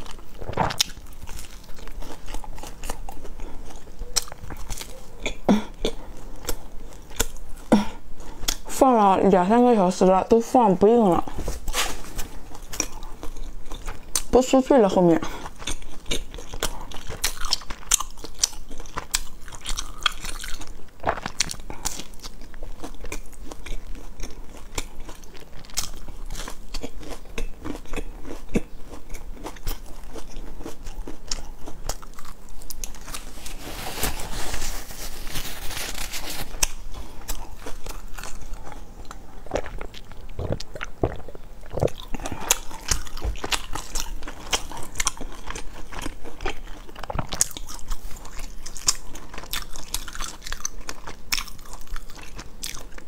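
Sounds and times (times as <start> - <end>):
biting and chewing biscuit: 0.0 - 8.7, 11.2 - 53.0.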